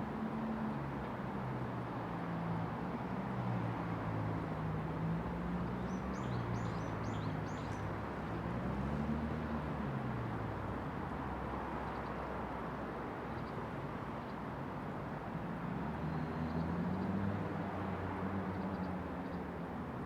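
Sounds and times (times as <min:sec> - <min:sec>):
city traffic engines: 0:00.0 - 0:20.0.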